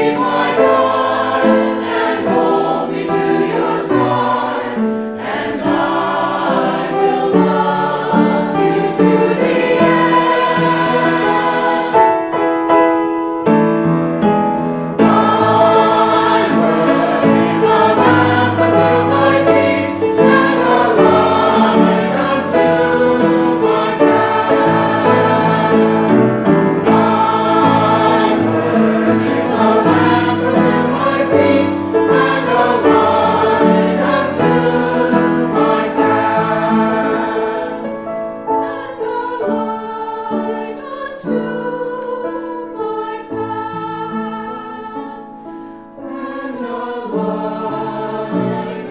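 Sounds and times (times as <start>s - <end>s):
choir singing sacred music: 0.0s - 13.6s, 14.4s - 48.9s.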